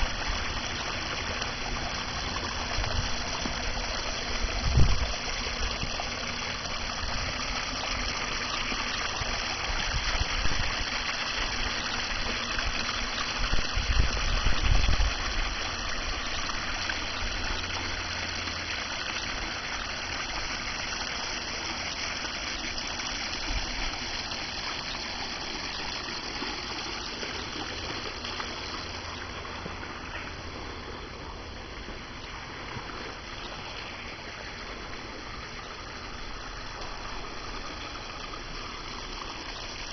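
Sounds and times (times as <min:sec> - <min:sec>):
water rushing down rock waterfalls: 0:00.0 - 0:39.9.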